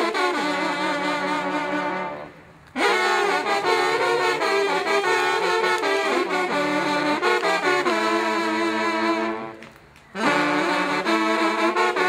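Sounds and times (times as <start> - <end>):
hunting horn playing: 0.0 - 12.0.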